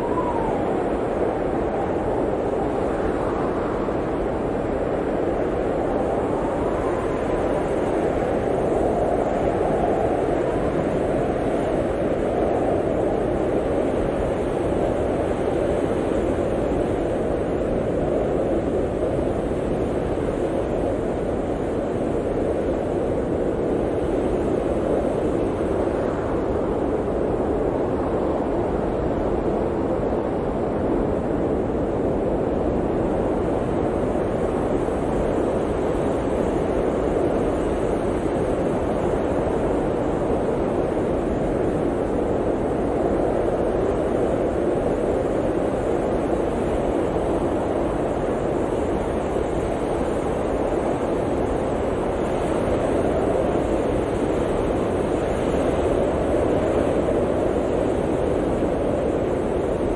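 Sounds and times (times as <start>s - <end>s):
blizzard wind blowing: 0.0s - 59.9s.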